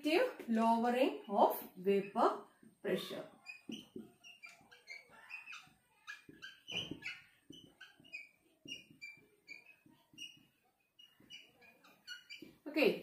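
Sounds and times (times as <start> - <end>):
marker squeaking on whiteboard: 1.1 - 13.0.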